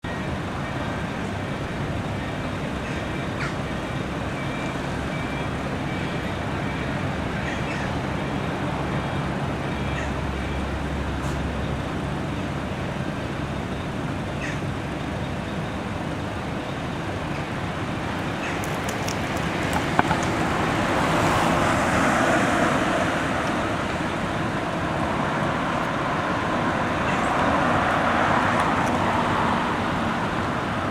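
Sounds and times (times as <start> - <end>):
road traffic noise: 0.0 - 30.9
heavy vehicles driving past: 0.4 - 30.9.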